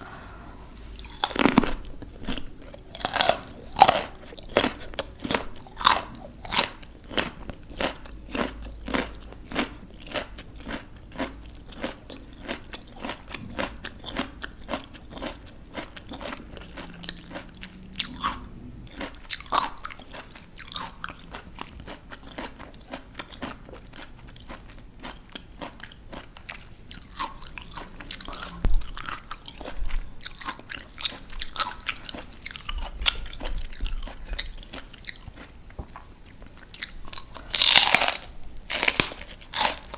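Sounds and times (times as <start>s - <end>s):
crunching raw vegetables: 0.8s - 39.9s.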